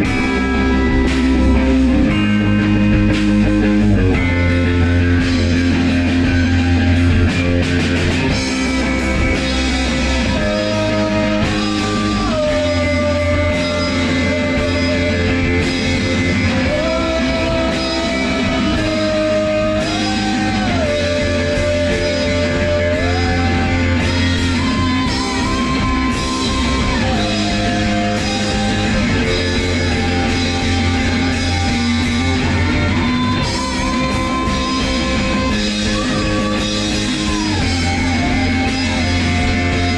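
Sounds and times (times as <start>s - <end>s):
bass guitar: 0.0s - 39.9s
electric guitar lead line: 0.0s - 39.9s.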